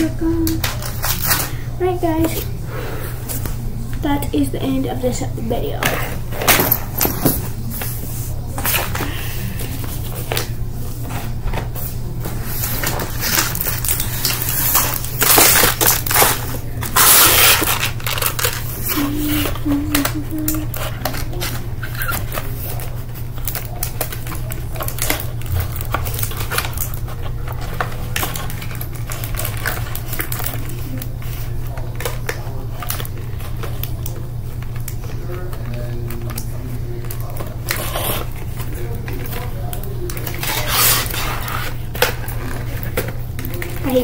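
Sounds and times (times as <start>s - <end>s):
paper rustling: 5.8s - 44.0s.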